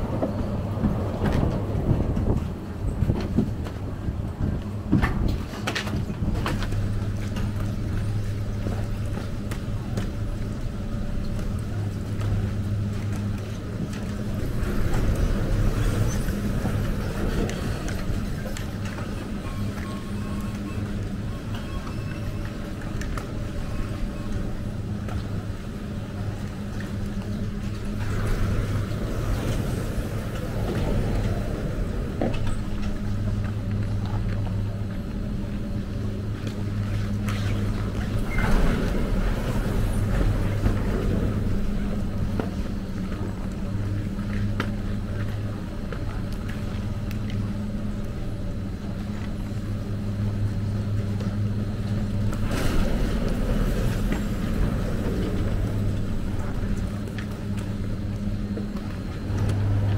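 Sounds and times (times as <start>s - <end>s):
faint clicks of cabins on rail: 0.0s - 59.9s
gondola machinery humming: 0.0s - 59.9s.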